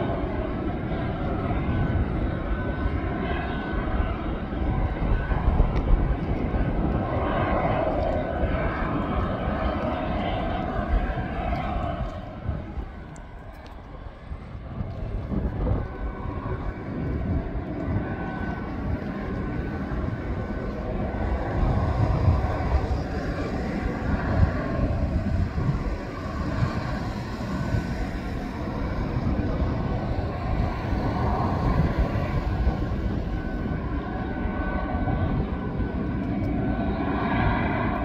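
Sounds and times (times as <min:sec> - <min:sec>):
airliner engines whining: 0:00.0 - 0:38.0
low rough rumble: 0:00.0 - 0:38.0.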